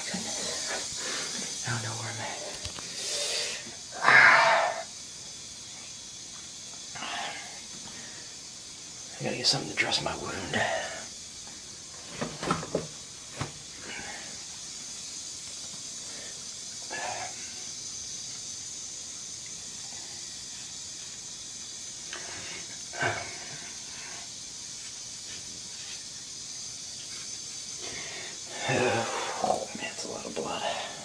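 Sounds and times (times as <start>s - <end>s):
microphone hiss: 0.0s - 31.0s.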